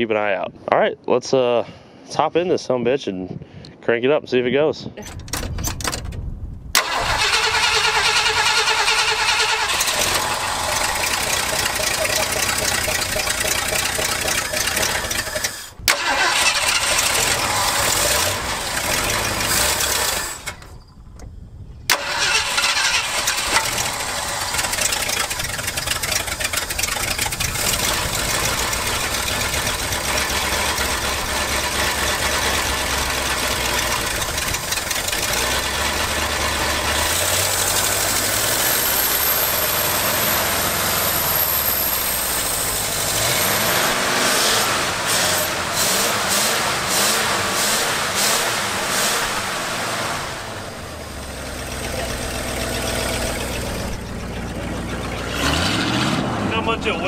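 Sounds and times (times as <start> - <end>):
truck engine running: 6.2 - 57.0.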